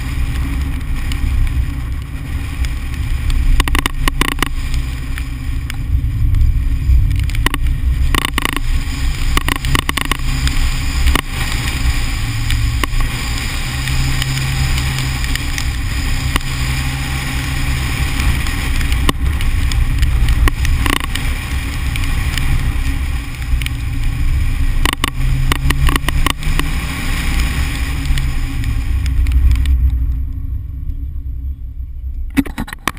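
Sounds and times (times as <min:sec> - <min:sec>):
car engine revving: 0:00.0 - 0:29.9
wind rush: 0:00.0 - 0:32.9.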